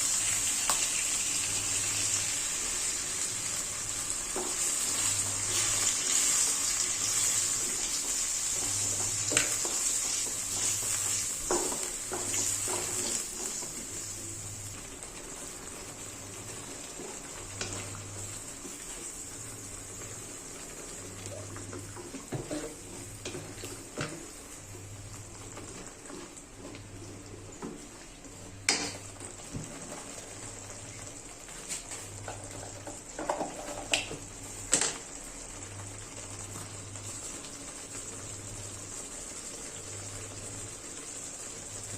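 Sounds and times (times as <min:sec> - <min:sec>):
food sizzling in a frying pan: 0:00.0 - 0:41.9.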